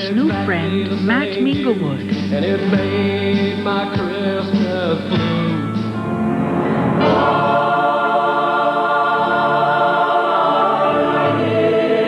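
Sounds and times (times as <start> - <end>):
choir singing held chords: 0.0 - 12.0
solo song: 0.0 - 12.0.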